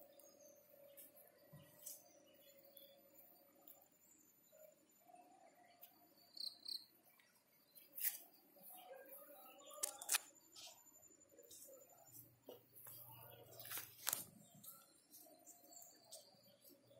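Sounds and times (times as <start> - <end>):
thin steady high tone: 0.0 - 16.9.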